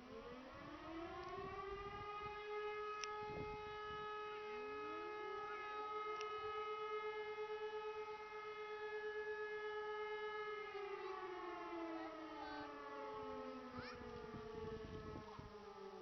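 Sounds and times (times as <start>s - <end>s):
distant electric motor sirens wailing: 0.0s - 16.0s.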